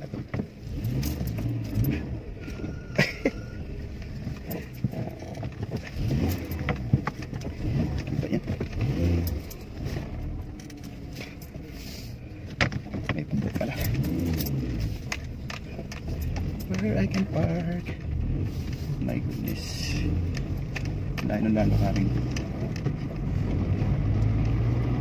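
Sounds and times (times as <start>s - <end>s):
car engine and road rumble: 0.0s - 25.0s
light clicks and rattles: 3.8s - 11.8s, 12.4s - 24.7s.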